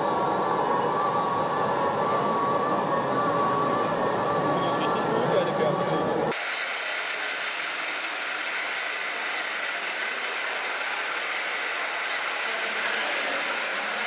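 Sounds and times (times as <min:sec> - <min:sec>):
small electric motors whirring: 0:00.0 - 0:14.0.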